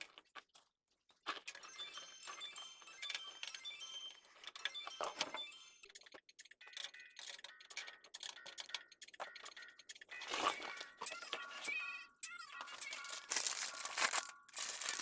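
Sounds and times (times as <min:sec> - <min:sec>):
computer parts clicking and clinking: 0:01.5 - 0:15.0.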